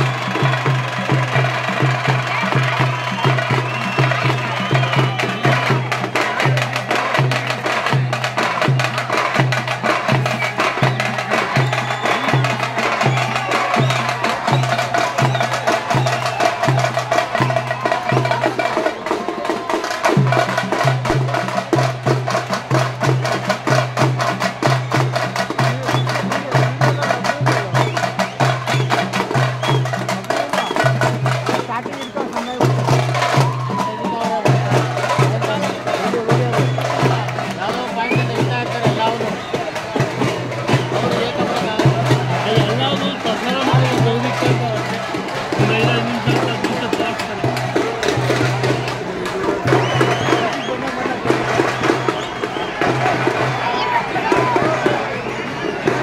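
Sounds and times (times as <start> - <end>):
fast drum strokes: 0.0 - 56.0
low booming drum beat: 0.0 - 56.0.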